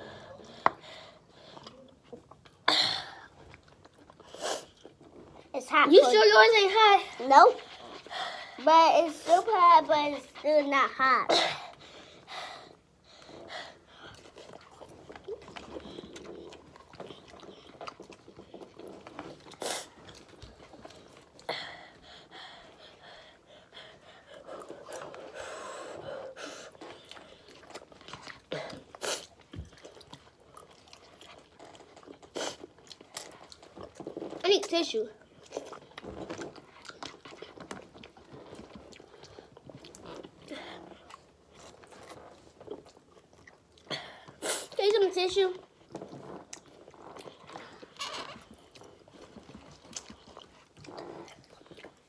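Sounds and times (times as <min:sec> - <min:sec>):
children chewing and slurping: 0:00.0 - 0:52.0.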